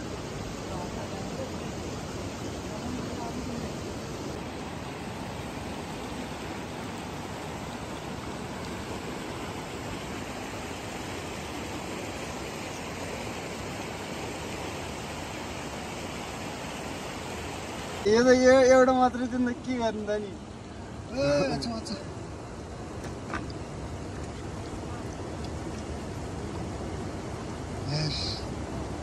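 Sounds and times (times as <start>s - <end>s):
stream water flowing over rocks: 0.0s - 29.0s.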